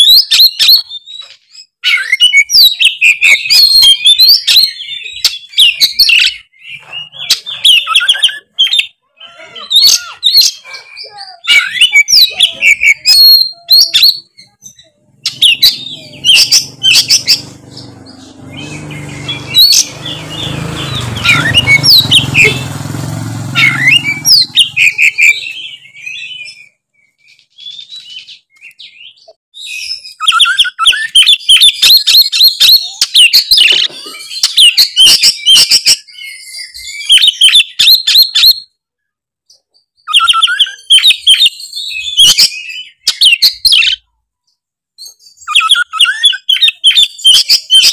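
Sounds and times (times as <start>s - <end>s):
bird singing whistles and chatter: 0.0s - 38.8s, 40.0s - 44.1s, 45.0s - 47.9s.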